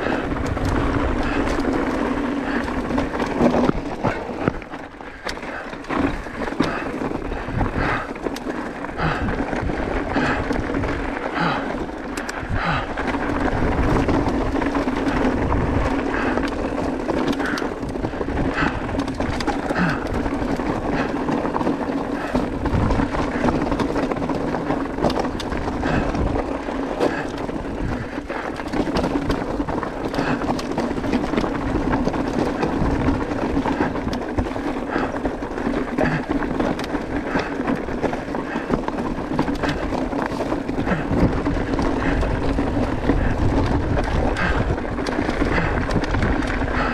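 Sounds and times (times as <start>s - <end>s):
bike knocking and rattling: 0.0s - 46.9s
bike tyres crunching over stones: 0.0s - 46.9s.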